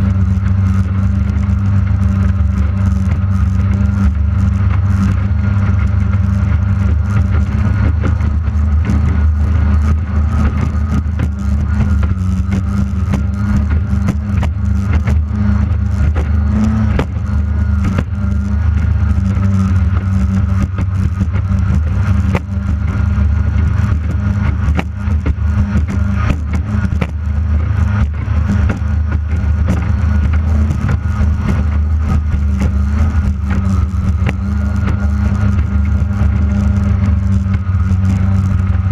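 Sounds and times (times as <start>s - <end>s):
boat engine running hard: 0.0s - 38.9s.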